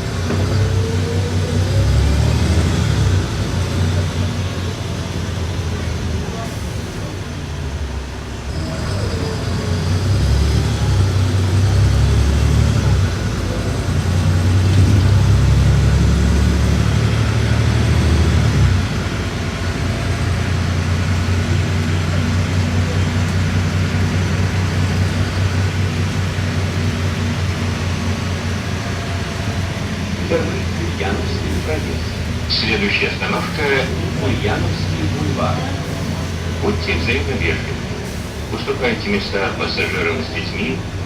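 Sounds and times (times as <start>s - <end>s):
bus engine from inside cabin: 0.0s - 41.0s.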